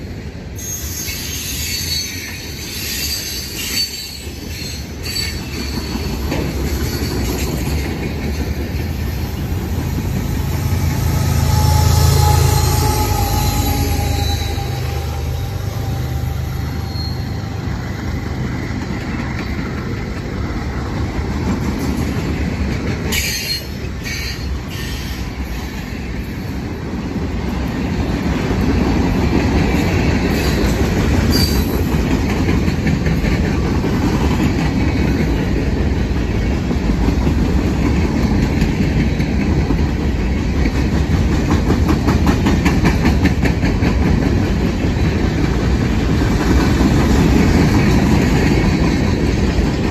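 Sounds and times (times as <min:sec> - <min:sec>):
steel wheels rumbling on rail: 0:00.0 - 0:49.9
wheels clickety-clack over rail joints: 0:01.1 - 0:10.8, 0:18.0 - 0:49.9.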